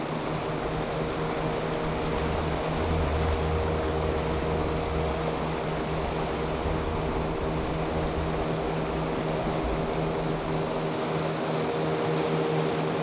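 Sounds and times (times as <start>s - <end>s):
constant high hiss: 0.0s - 13.0s
distant motorboat engine droning: 0.0s - 13.0s.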